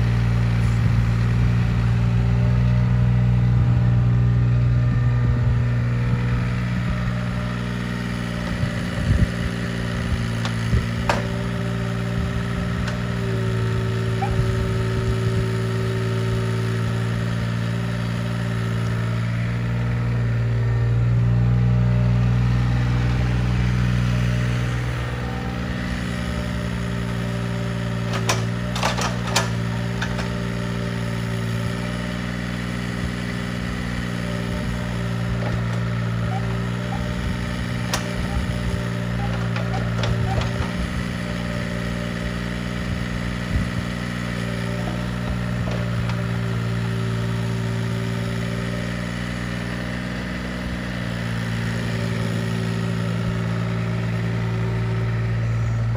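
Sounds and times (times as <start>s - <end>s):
excavator engine running: 0.0s - 55.9s.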